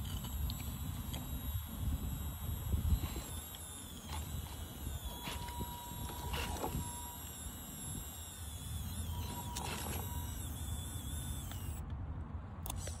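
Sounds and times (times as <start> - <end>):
small electric motor whining: 0.0 - 11.9, 12.6 - 13.0.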